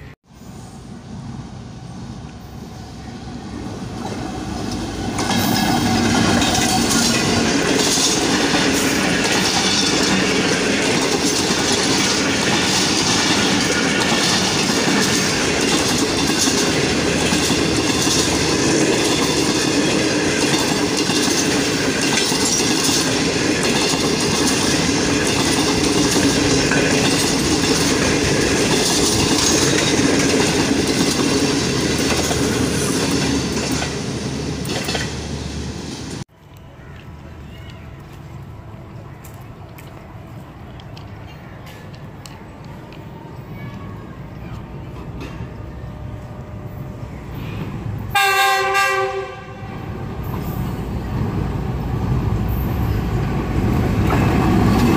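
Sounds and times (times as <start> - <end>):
passenger train passing: 0.0 - 54.9.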